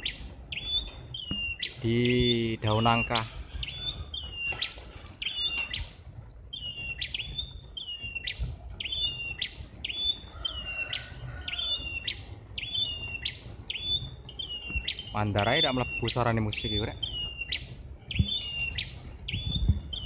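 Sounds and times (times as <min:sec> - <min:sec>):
songbird calling: 0:00.0 - 0:20.0.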